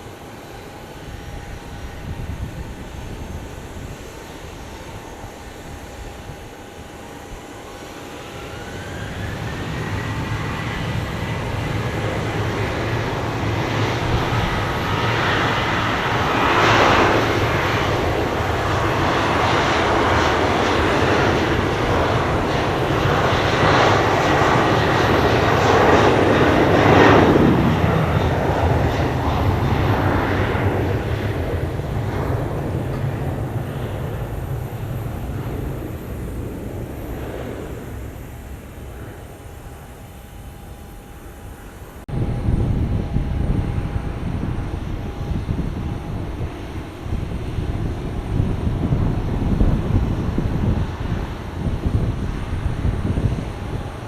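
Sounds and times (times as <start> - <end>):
jet engine whine: 0.0 - 54.0
jet engines spooling up: 0.0 - 54.0.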